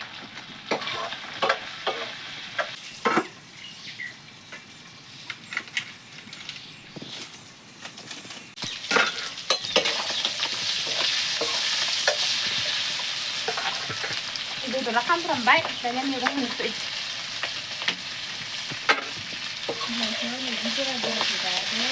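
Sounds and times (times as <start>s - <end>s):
meat sizzling in a pan: 0.0s - 4.0s, 8.0s - 21.9s.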